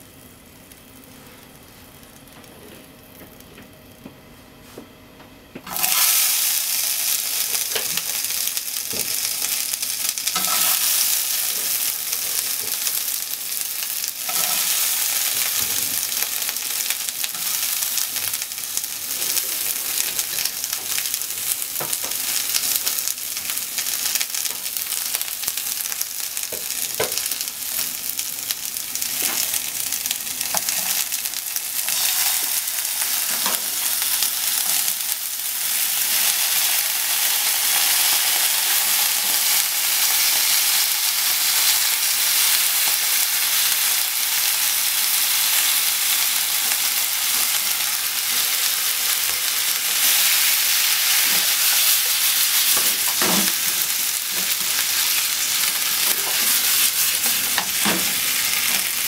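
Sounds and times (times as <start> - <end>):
okra sizzling in oil: 5.7 - 59.0.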